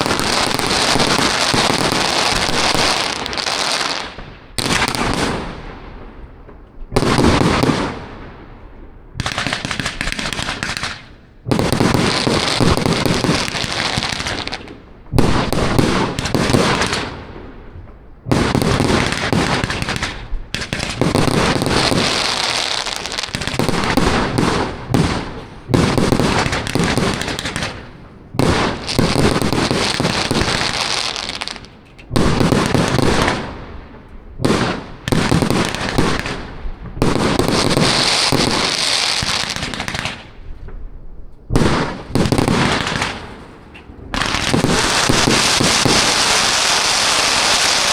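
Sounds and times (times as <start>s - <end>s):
fireworks firing and crackling: 0.0s - 47.9s.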